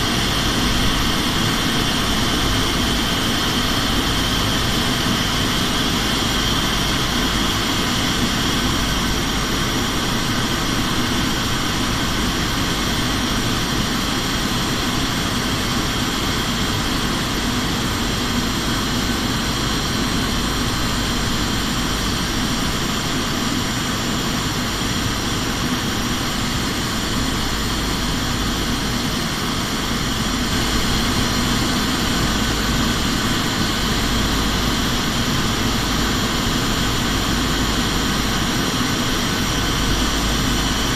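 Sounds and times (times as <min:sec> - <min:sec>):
airliner engine drone: 0:00.0 - 0:40.9
faint steady whining tones: 0:00.0 - 0:40.9
rushing airflow: 0:00.0 - 0:40.9.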